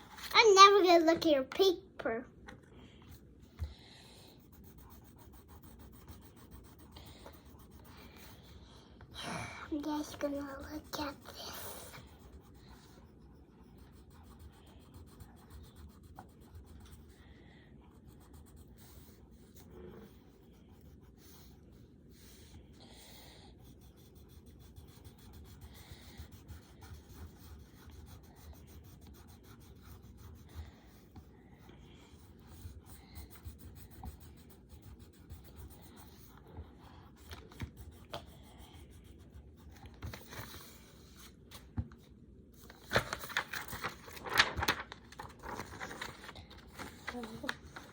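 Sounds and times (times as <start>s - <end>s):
coloured pencils scratching paper: 3.0s - 41.7s, 42.6s - 47.9s.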